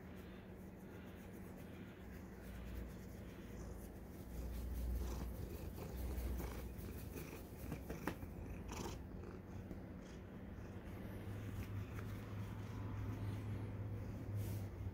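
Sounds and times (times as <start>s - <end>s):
cat purring: 0.1s - 14.2s.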